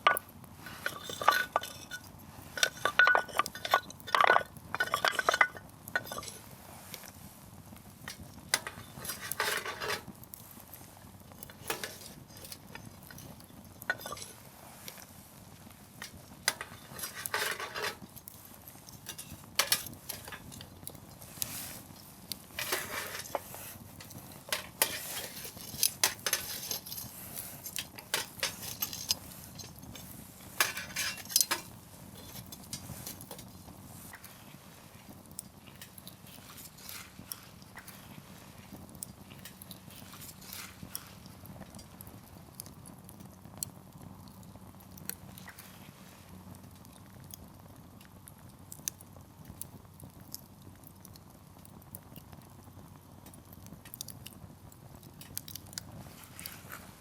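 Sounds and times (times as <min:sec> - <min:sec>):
rush of flame: 0:00.0 - 0:51.4, 0:53.4 - 0:57.0
campfire crackling and popping: 0:00.0 - 0:57.0.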